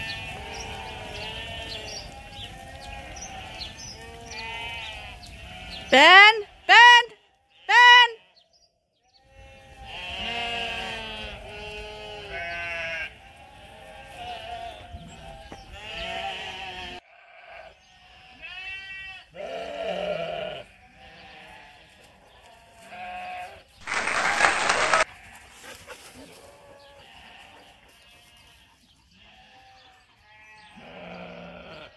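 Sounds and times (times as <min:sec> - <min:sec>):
sheep bleating: 0:00.0 - 0:08.5, 0:09.2 - 0:25.4, 0:26.2 - 0:31.9.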